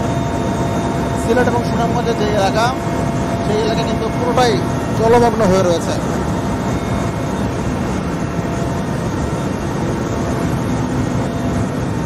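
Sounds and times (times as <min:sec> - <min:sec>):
helicopter rotor and engine rumble: 0:00.0 - 0:12.0.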